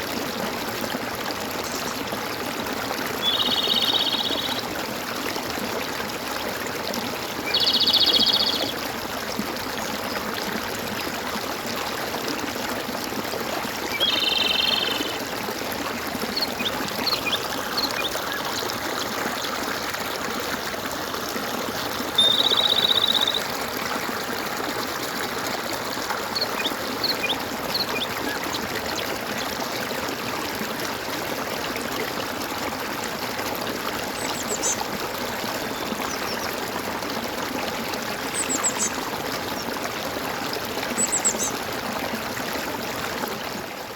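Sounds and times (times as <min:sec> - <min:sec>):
stream water gurgling: 0:00.0 - 0:43.9.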